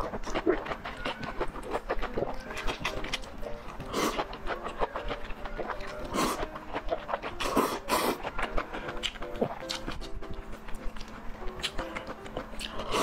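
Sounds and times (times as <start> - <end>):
chewing noodles: 0.0 - 13.0.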